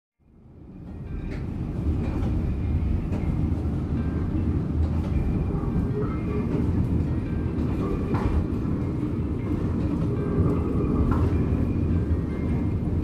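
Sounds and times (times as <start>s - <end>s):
streetcar rumbling on track: 0.2s - 13.0s.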